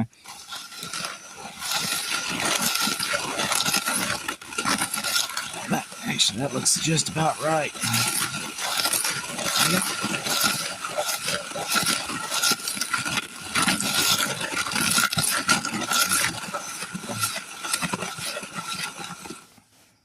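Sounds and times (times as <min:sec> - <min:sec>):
stirring wet clay by hand: 0:00.0 - 0:19.6.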